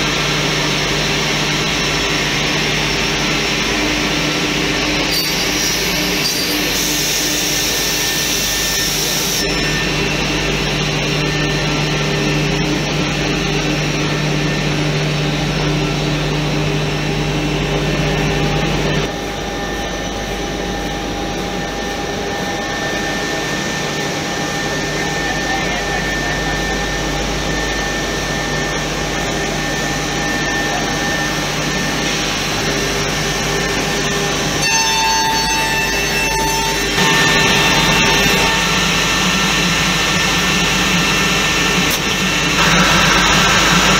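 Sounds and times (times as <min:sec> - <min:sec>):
edge-banding machine whirring: 0:00.0 - 0:43.9.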